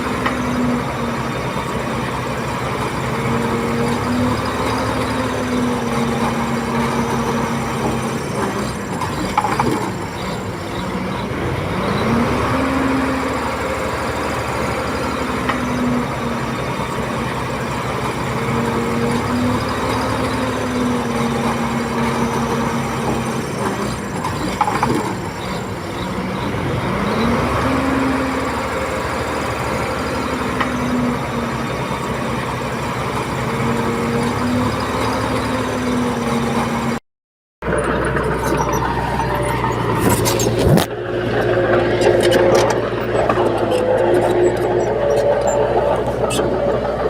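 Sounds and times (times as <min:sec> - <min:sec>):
bulldozer diesel engine: 0:00.0 - 0:37.0, 0:37.6 - 0:47.0.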